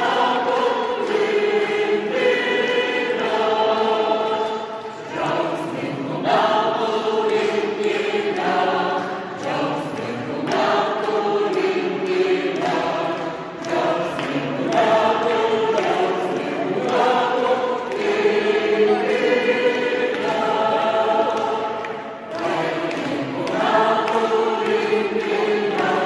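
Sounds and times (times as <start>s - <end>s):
mixed choir singing: 0.0s - 26.0s.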